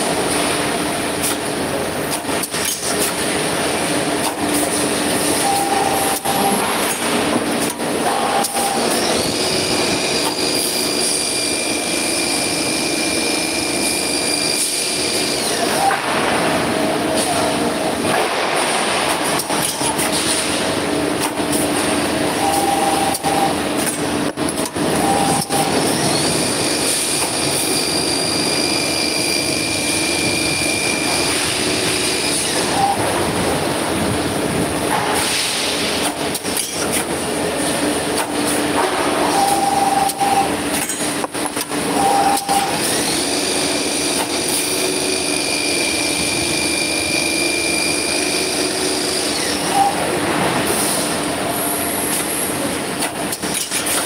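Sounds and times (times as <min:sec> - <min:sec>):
high steady machine whine: 0:00.0 - 0:54.0
machine running: 0:00.0 - 0:54.0.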